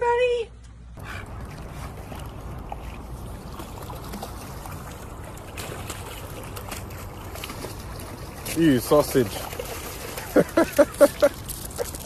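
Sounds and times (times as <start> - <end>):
water splashing and sloshing: 0.7 - 12.0.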